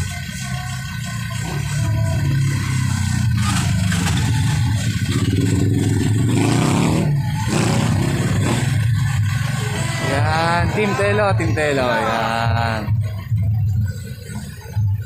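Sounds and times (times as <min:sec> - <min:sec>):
engine revving as vehicle pulls forward: 0:00.0 - 0:12.9
vehicle engines rumbling: 0:00.0 - 0:15.0.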